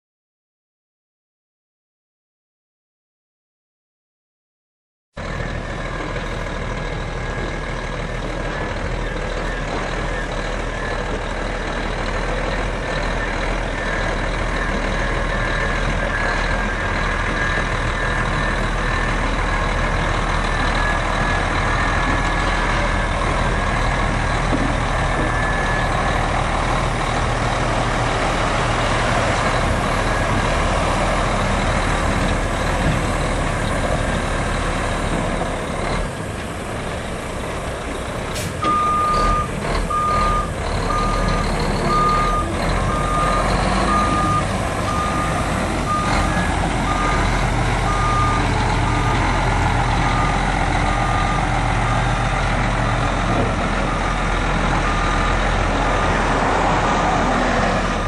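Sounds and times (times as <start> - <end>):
diesel truck engine running: 5.2 - 58.0.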